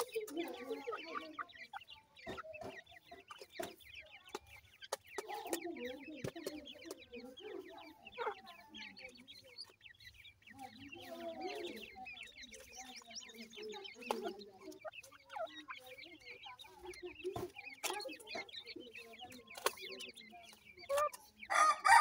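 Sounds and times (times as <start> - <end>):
chicks peeping: 0.0 - 22.0.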